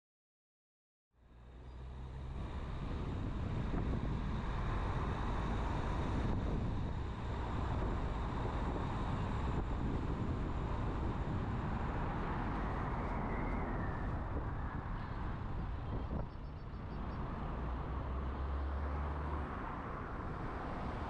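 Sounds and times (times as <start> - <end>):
low road noise rumble: 1.1 - 21.0
wind buffeting microphone: 2.4 - 21.0.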